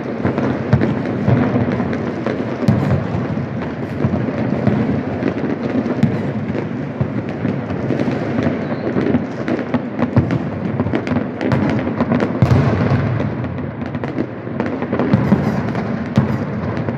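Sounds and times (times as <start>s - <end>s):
fireworks and firecrackers bangs: 0.0s - 16.9s.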